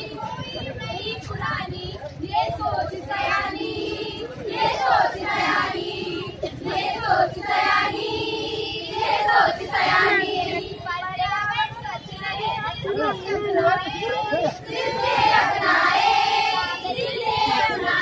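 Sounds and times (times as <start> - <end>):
women singing unaccompanied: 0.0 - 18.0.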